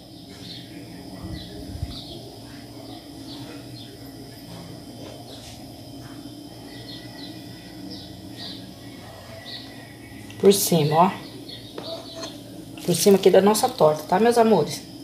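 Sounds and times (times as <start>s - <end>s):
small birds chirping: 0.0s - 4.6s, 5.2s - 13.3s
steady room hum: 0.0s - 15.0s.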